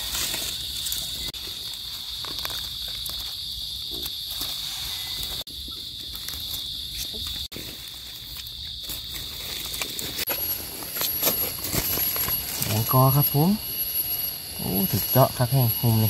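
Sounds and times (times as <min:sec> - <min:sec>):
insects chorus: 0:00.0 - 0:16.0
thin high insect tone: 0:00.0 - 0:16.0.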